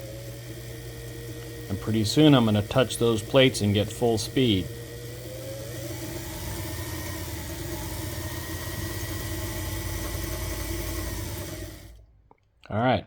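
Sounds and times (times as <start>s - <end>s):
sewing machine motor running: 0.0s - 12.0s.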